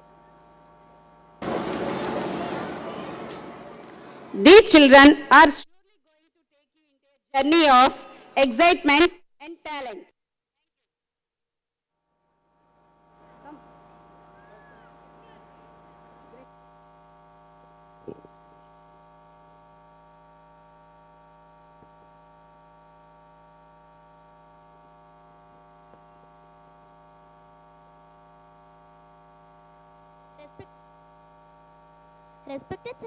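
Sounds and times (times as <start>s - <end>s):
electrical mains hum: 0.0s - 6.3s, 7.4s - 10.1s, 11.8s - 33.0s.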